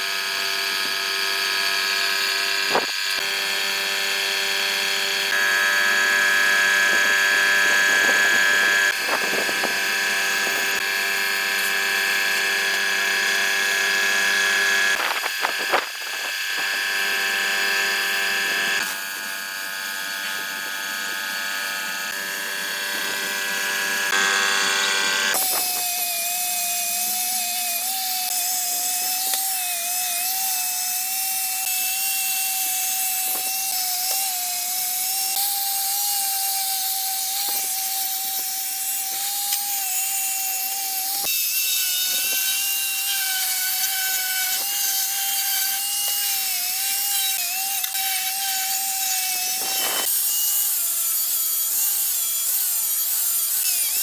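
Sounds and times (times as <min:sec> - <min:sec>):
power tools whining: 0:00.0 - 0:54.0.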